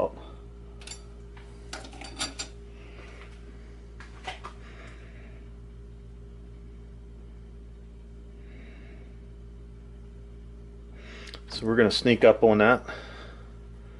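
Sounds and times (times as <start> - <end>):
low pulsing hum: 0.0 - 13.9.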